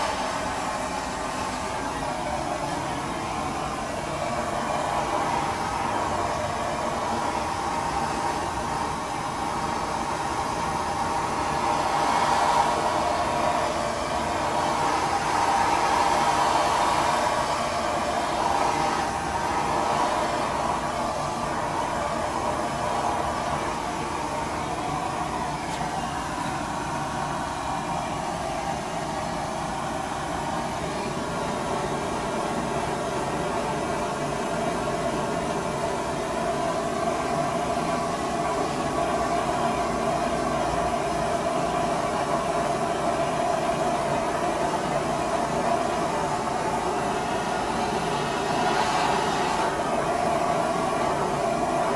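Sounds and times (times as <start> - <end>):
blowtorch flame hissing: 0.0 - 51.9.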